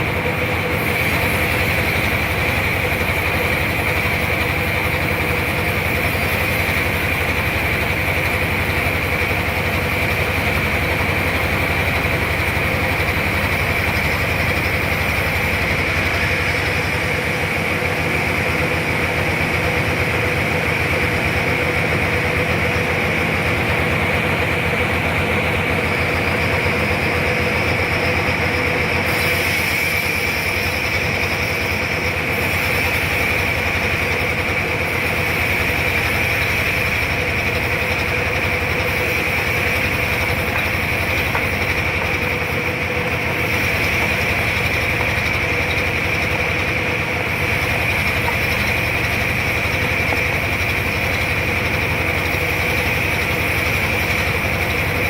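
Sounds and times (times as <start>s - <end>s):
saw blade whine: 0.0s - 55.0s.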